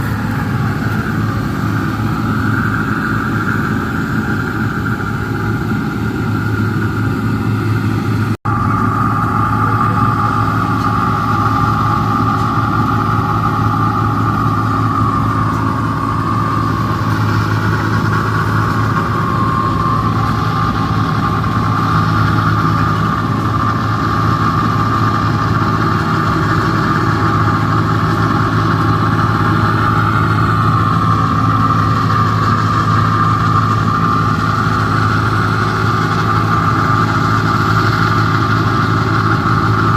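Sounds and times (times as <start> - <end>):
combine harvester engine drone: 0.0 - 39.9
steady high whine: 0.0 - 39.9.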